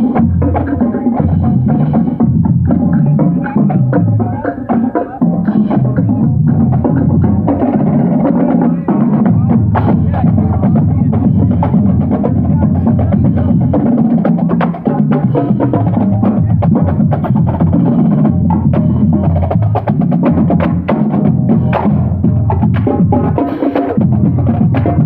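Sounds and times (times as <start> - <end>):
snare and bass drums beating: 0.0 - 25.0
sousaphones playing low notes: 0.0 - 25.0.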